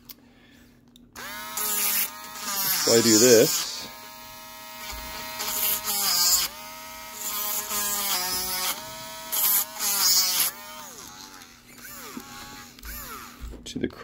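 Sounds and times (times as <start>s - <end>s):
rotary tool whining and scraping: 1.2s - 13.5s.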